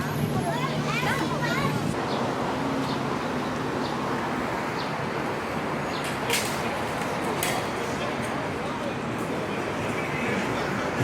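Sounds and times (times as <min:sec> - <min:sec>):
busy crowd background noise: 0:00.0 - 0:11.0.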